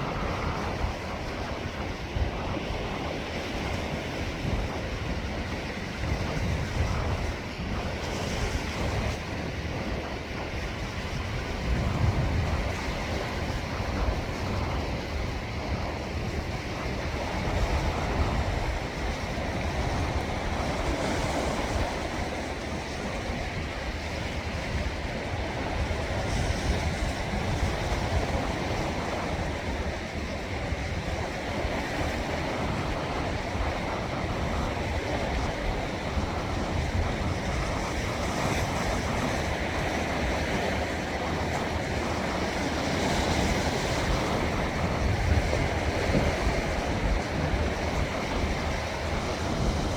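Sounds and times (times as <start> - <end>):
sea waves washing in: 0.0 - 49.9
wind buffeting microphone: 0.0 - 49.9.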